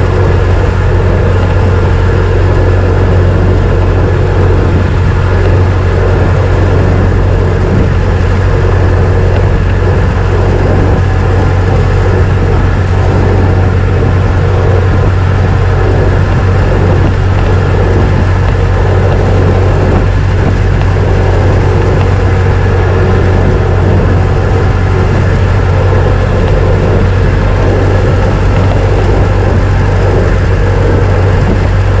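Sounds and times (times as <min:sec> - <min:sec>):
car engine running steadily: 0:00.0 - 0:32.0
road and mechanical noise: 0:00.0 - 0:32.0.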